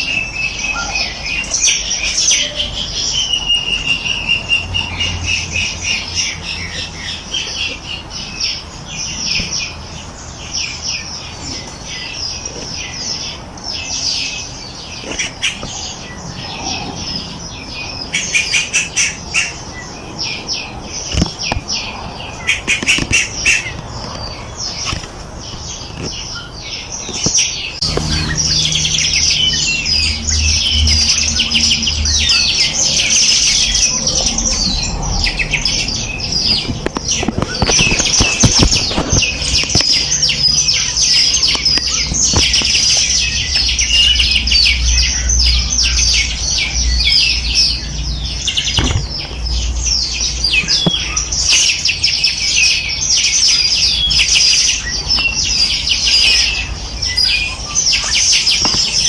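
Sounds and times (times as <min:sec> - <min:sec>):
sharp bird chips: 0:00.0 - 0:59.0
songbirds chirping and trilling: 0:00.0 - 0:59.0.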